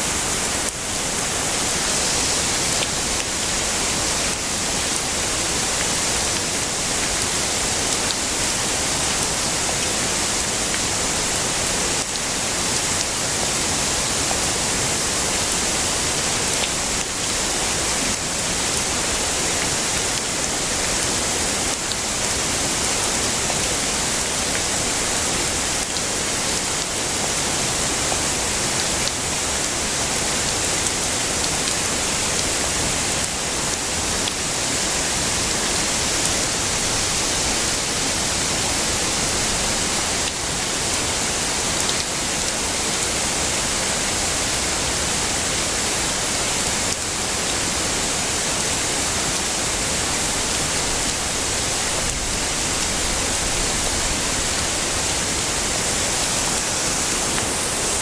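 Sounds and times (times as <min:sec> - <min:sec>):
heavy rain hissing: 0:00.0 - 0:58.0.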